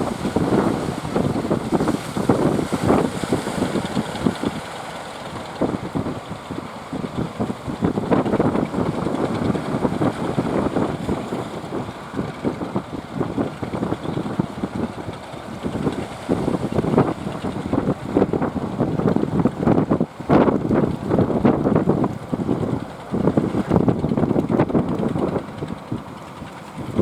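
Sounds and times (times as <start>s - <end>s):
boat engine: 0.0s - 27.0s
wind buffeting microphone: 0.0s - 27.0s.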